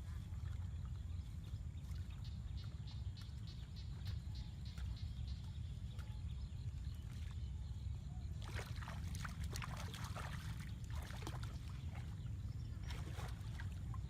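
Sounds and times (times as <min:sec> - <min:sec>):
steady low rumble: 0:00.0 - 0:14.0
water splashing and sloshing: 0:00.0 - 0:14.0.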